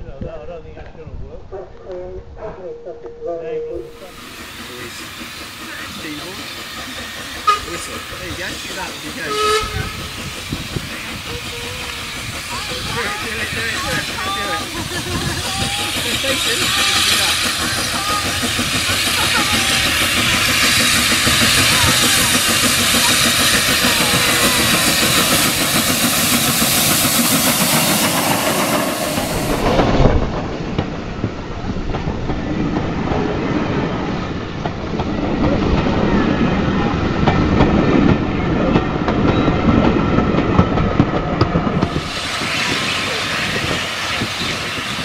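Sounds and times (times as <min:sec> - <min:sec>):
steam locomotive hissing: 0:03.8 - 0:45.0
coaches clickety-clack over rail joints: 0:04.3 - 0:45.0.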